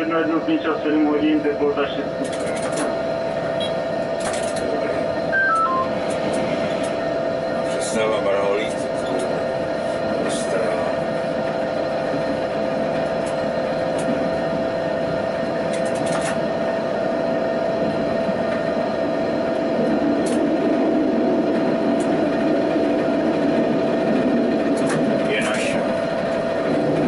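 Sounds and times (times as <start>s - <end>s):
tram wheels rumbling on rail: 0.0s - 27.0s
constant whine: 0.1s - 27.0s.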